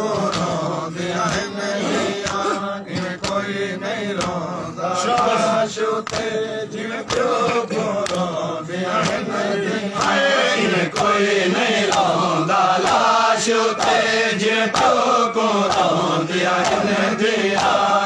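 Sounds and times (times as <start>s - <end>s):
men chanting in unison: 0.0s - 18.0s
hand slaps on chests: 0.1s - 18.0s.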